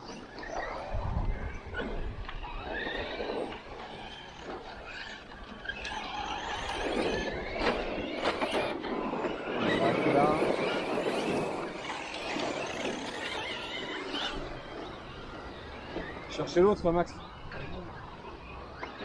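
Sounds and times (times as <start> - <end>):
tyres on dirt: 0.0 - 19.0.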